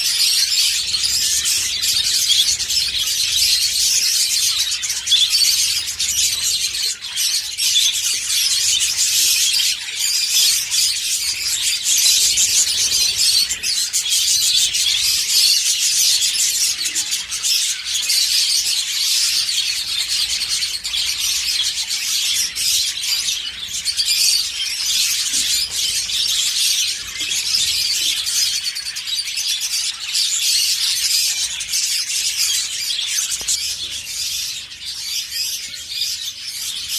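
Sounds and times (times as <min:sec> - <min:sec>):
budgerigars chattering and warbling: 0:00.0 - 0:36.9.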